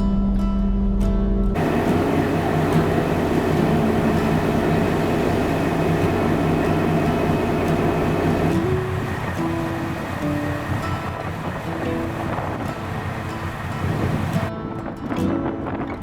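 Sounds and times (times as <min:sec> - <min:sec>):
ferry engine humming: 0:01.6 - 0:14.5
water rushing: 0:01.6 - 0:14.5.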